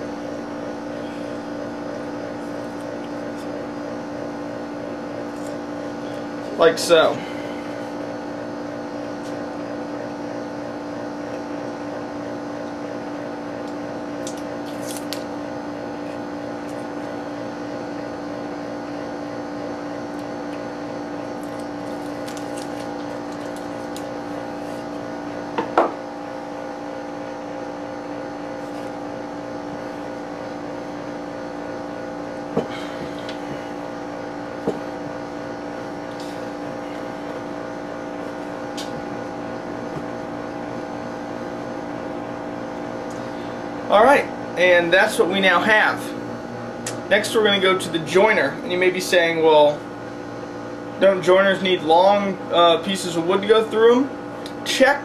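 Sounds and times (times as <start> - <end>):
machine hum with fixed tones: 0.0 - 55.0.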